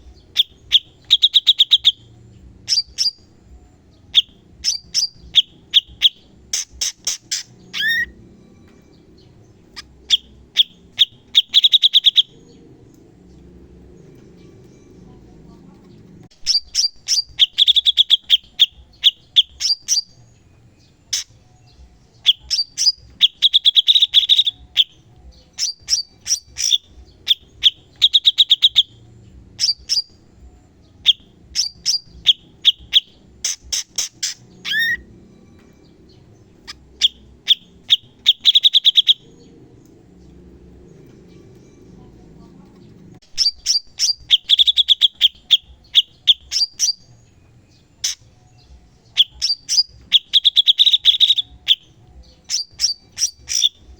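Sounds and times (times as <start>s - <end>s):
bird chirping and trilling: 0.0s - 53.9s.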